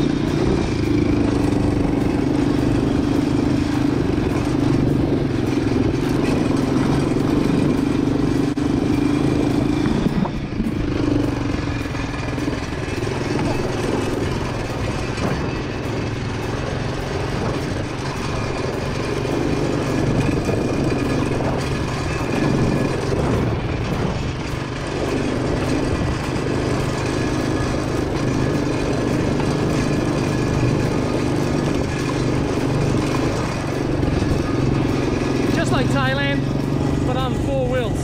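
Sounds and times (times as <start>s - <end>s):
quad bike engine running: 0.0s - 38.0s.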